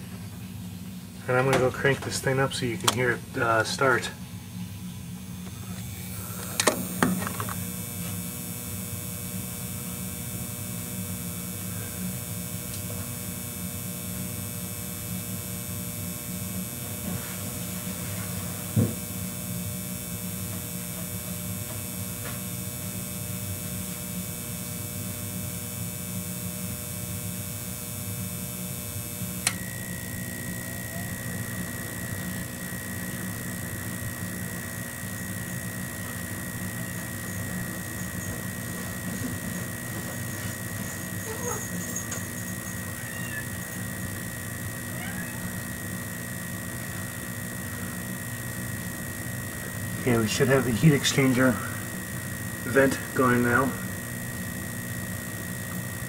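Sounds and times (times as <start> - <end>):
furnace hum: 0.0 - 56.0
vent blower whine: 0.0 - 56.0.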